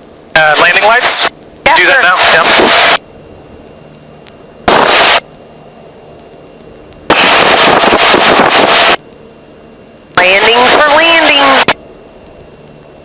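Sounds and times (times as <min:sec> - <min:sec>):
aircraft engine and wind noise: 0:00.0 - 0:13.0
low steady hum: 0:00.0 - 0:13.0.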